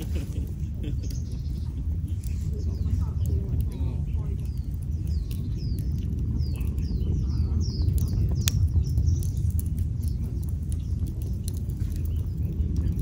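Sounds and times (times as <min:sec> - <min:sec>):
small bird chirping: 0:00.0 - 0:13.0
wind rumble: 0:00.0 - 0:13.0
wood fire crackling: 0:00.0 - 0:13.0.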